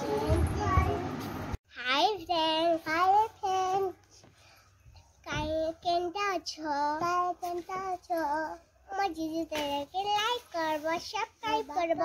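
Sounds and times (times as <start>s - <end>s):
girl singing: 0.0s - 4.1s, 5.1s - 12.0s.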